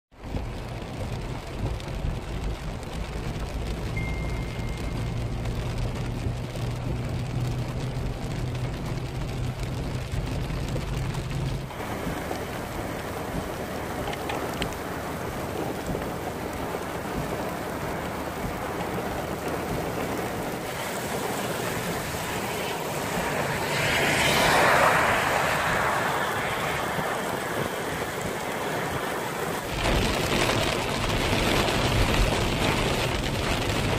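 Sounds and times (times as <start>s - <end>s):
heavy rain falling: 0.1s - 33.9s
vehicle engine humming: 0.2s - 33.9s.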